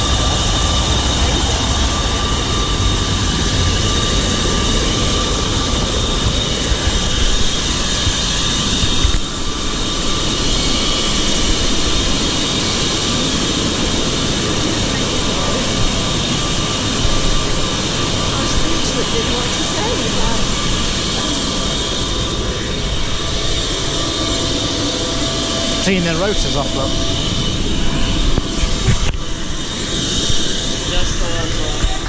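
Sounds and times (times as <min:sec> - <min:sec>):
helicopter turbine engine idling: 0:00.0 - 0:32.0.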